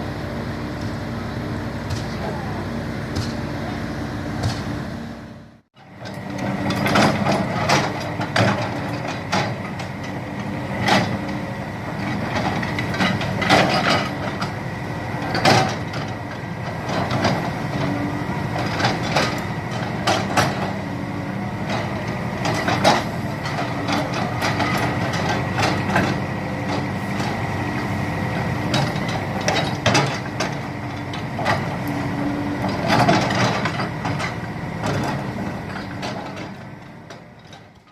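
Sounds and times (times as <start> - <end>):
excavator diesel engine whining: 0.0 - 37.9
machinery knocks and clanks: 1.8 - 3.5, 4.4 - 4.8, 5.9 - 14.6, 15.2 - 37.9.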